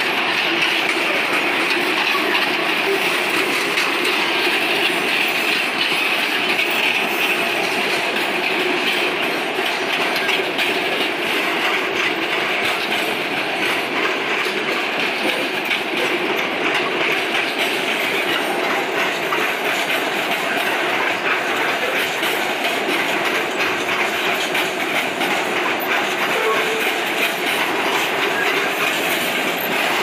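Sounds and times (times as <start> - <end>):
clickety-clack over rail joints: 0.0 - 30.0
freight wagons clattering on rails: 0.0 - 30.0.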